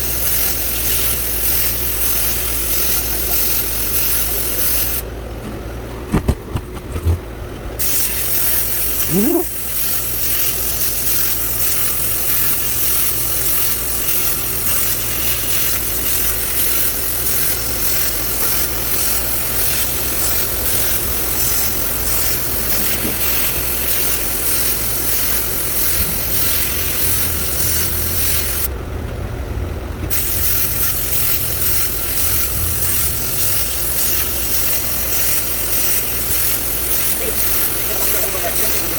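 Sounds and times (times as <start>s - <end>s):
sandblaster hissing: 0.0s - 5.0s, 7.8s - 28.7s, 30.1s - 38.9s.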